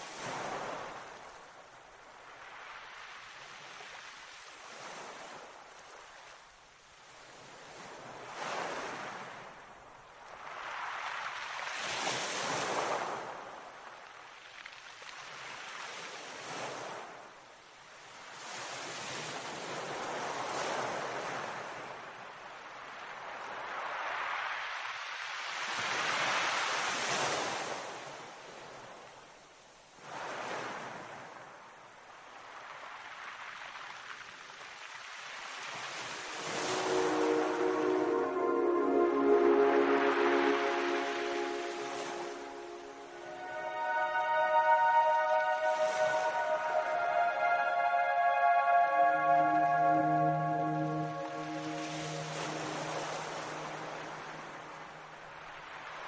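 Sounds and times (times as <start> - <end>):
sea waves breaking on shore: 0.0 - 29.0, 29.9 - 56.0.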